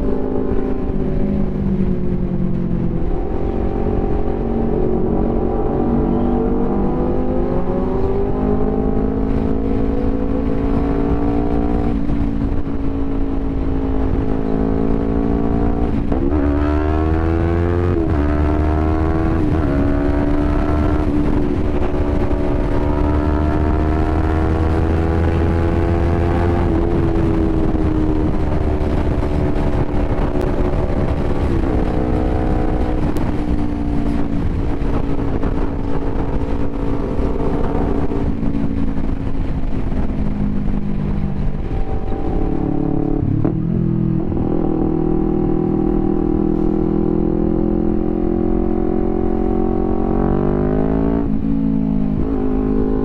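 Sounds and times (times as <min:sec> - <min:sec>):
low wind rumble: 0:00.0 - 0:53.0
motorcycle engine accelerating: 0:00.0 - 0:53.0.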